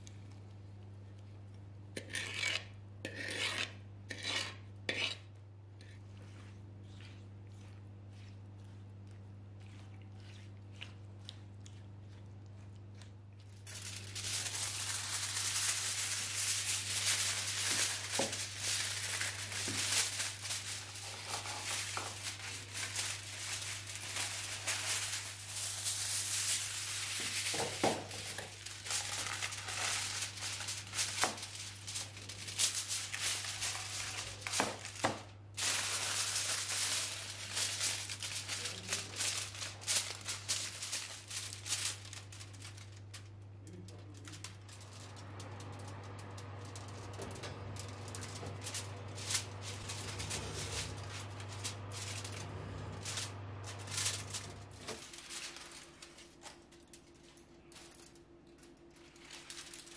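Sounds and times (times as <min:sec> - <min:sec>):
aluminium foil crinkling: 0:05.8 - 0:59.9.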